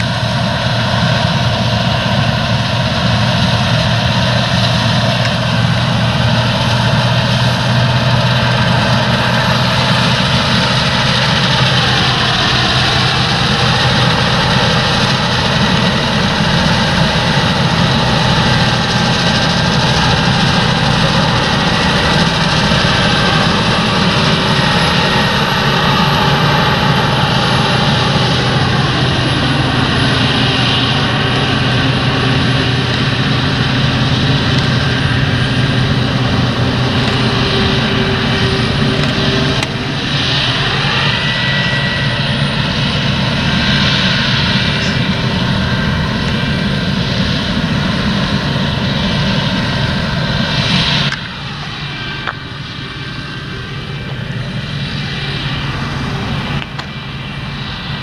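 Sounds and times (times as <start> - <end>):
combine harvester engine drone: 0.0 - 58.0
mid-pitched machine whine: 0.0 - 58.0
whir of threshing machinery: 0.0 - 58.0.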